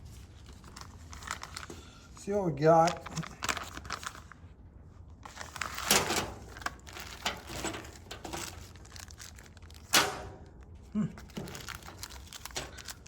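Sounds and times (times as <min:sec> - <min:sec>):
plastic bag crinkling: 0:00.4 - 0:01.7, 0:02.8 - 0:04.4, 0:05.2 - 0:13.0.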